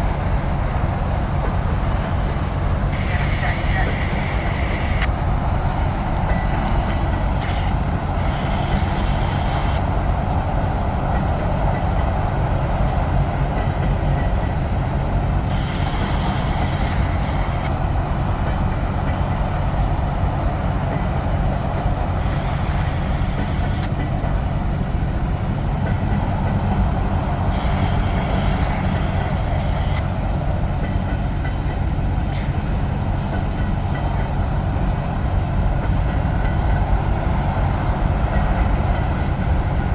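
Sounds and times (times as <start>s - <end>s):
freight train wheels rumbling: 0.0s - 39.9s
train rattles and squeals: 0.0s - 39.9s.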